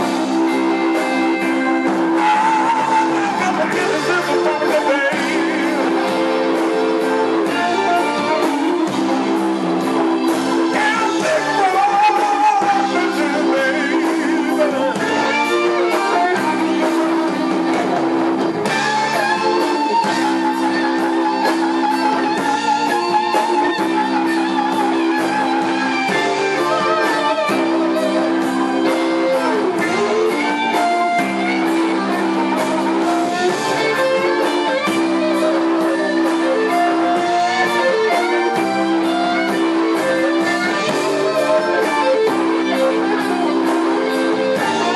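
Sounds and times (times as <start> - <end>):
electric guitar with bent notes: 0.0 - 44.9
repeating backing riff: 0.0 - 44.9
man singing: 1.9 - 8.9, 10.6 - 17.9, 18.7 - 38.7, 39.7 - 44.9.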